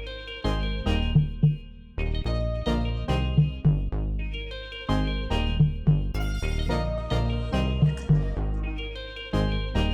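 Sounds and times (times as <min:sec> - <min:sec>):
plucked guitar-like notes: 0:00.0 - 0:09.9
steady bass beat: 0:00.6 - 0:04.2, 0:04.9 - 0:09.9.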